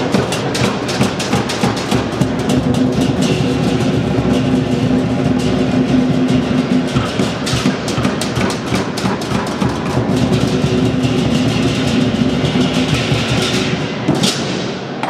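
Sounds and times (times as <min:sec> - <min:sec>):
large drum beating fast: 0:00.0 - 0:14.4
cymbals clashing: 0:00.0 - 0:15.0.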